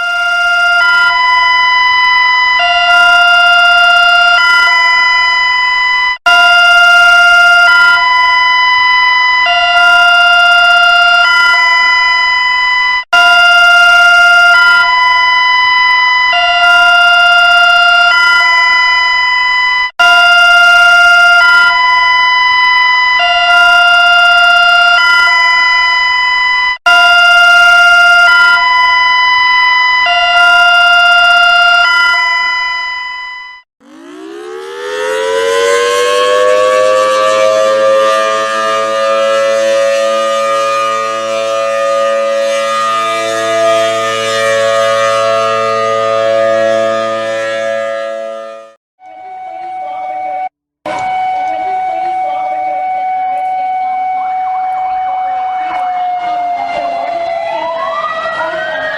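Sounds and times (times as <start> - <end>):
electronic alert alarm chords: 0.0 - 48.8.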